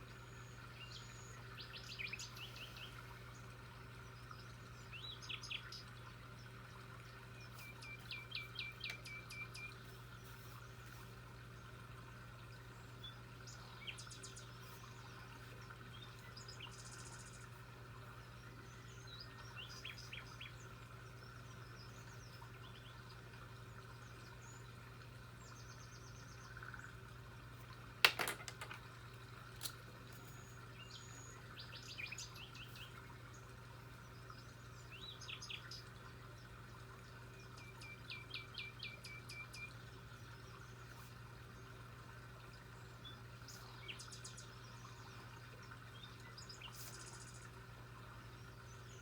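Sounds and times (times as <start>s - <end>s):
birds chirping and trilling: 0.0s - 11.7s, 12.3s - 27.0s, 30.1s - 41.6s, 42.7s - 47.6s.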